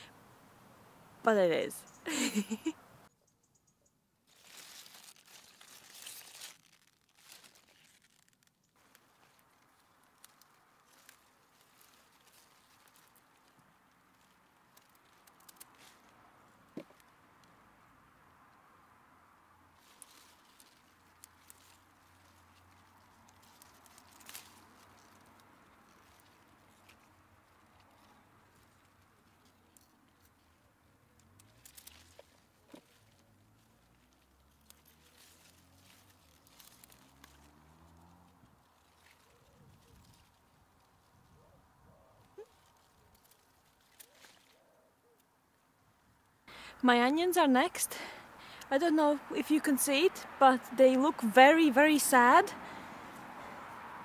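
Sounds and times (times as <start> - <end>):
leaves rustling: 1.3 - 2.8, 4.3 - 54.0.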